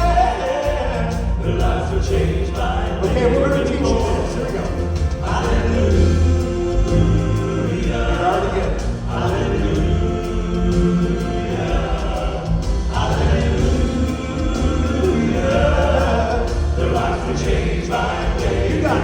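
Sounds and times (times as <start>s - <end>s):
instrumental backing with steady bass: 0.0s - 19.0s
male vocal quartet singing in harmony: 0.0s - 19.0s.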